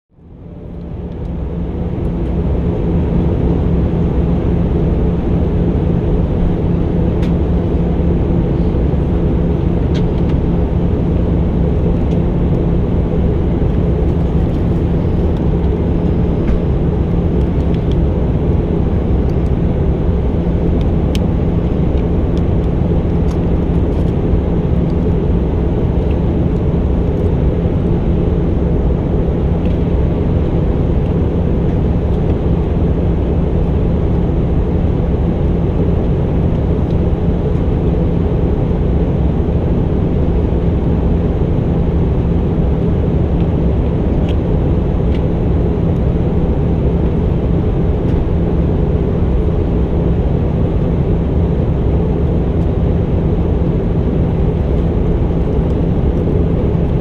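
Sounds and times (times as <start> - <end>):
airliner cabin drone: 0.1 - 57.0.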